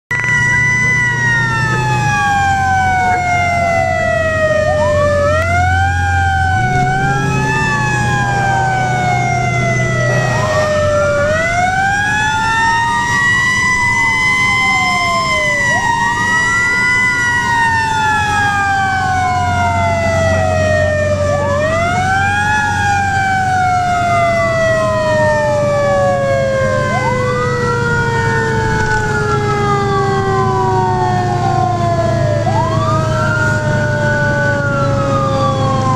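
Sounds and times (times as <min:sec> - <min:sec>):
fire engine siren wailing: 0:00.1 - 0:35.9
truck engine drone: 0:00.1 - 0:35.9.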